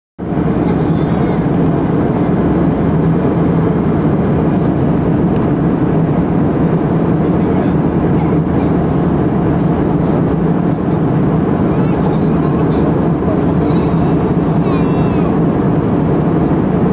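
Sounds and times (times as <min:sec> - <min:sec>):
jet cabin engine roar: 0:00.2 - 0:16.9.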